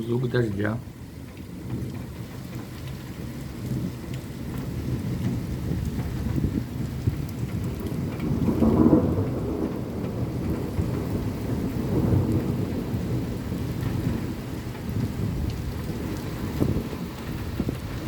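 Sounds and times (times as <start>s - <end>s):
low rumble of thunder: 0.0s - 18.0s
rain beating on window glass: 0.0s - 18.0s.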